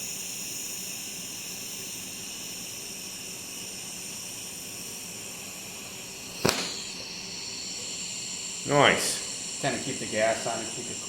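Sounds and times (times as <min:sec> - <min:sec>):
welding arc hiss: 0:00.0 - 0:11.0.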